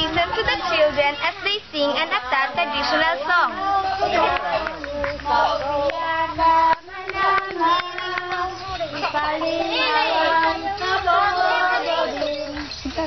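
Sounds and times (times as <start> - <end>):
children singing: 0.3 - 13.0.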